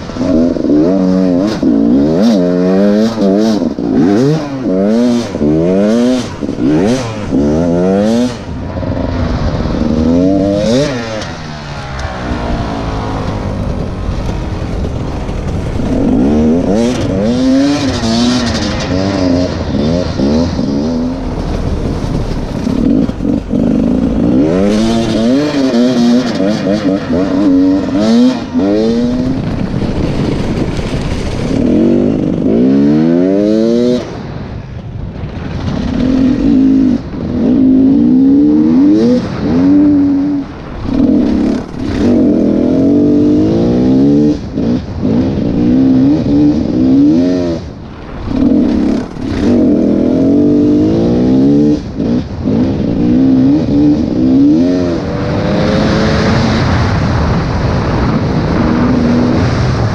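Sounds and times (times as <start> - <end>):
dirt bike engine revving: 0.0 - 34.2, 35.6 - 59.9.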